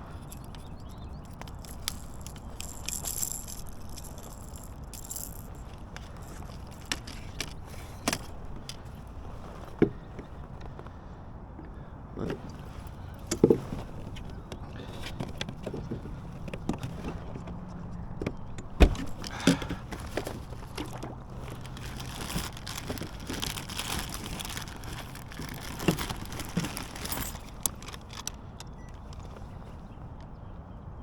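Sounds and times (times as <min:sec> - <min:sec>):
kayak handling clicks and knocks: 0:00.0 - 0:11.0, 0:11.6 - 0:29.9.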